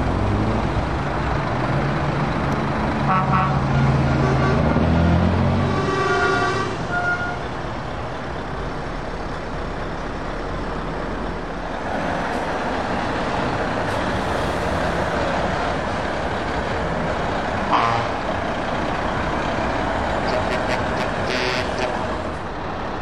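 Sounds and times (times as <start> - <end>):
truck engines running: 0.0 - 23.0.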